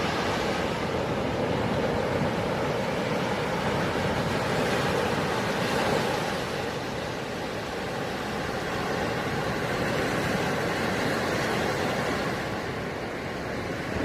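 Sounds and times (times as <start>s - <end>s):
sea waves washing up a beach: 0.0s - 14.0s.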